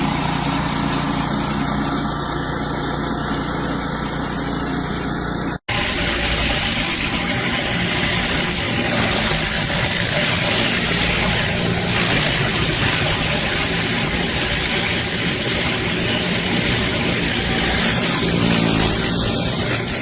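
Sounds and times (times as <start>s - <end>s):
pressure washer running: 0.0s - 20.0s
water spraying: 0.0s - 20.0s.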